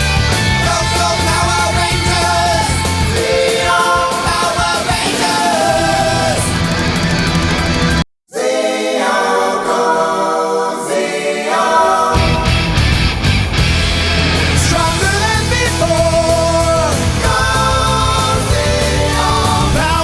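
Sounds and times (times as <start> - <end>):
rock music with singing: 0.0 - 8.0, 11.8 - 20.0.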